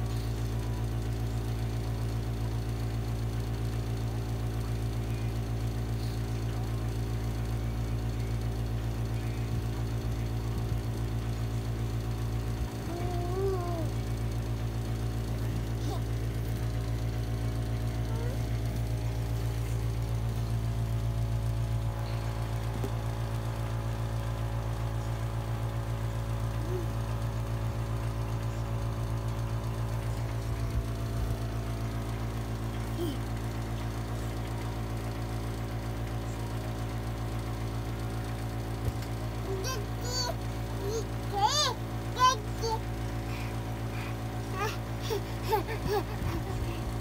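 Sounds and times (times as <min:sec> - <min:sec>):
steady machine hum: 0:00.0 - 0:47.0.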